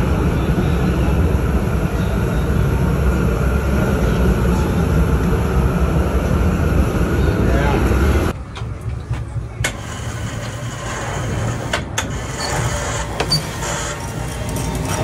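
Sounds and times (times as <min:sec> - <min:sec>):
burner and boiling water rumble: 0:00.0 - 0:15.0.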